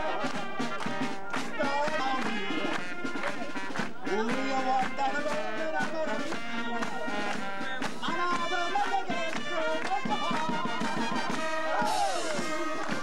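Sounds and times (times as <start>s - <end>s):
bass drum beat: 0.0s - 13.0s
brass band playing: 0.0s - 13.0s
crowd voices: 0.0s - 13.0s.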